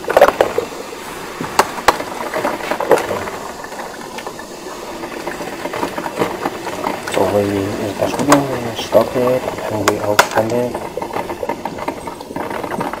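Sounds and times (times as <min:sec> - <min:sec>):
coffee maker hissing and crackling: 0:00.0 - 0:13.0.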